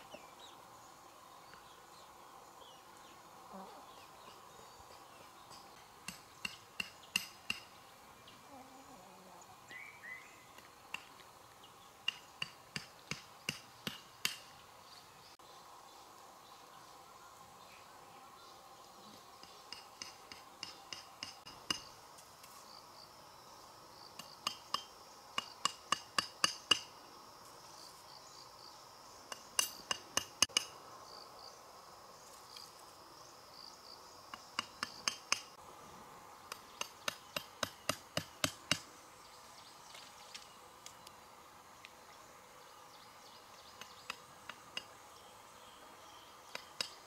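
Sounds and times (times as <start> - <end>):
faint insects humming: 0.0 - 47.0.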